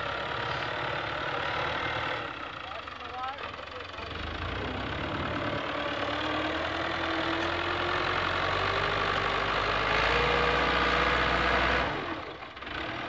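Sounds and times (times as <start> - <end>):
tractor diesel engine: 0.0 - 13.0.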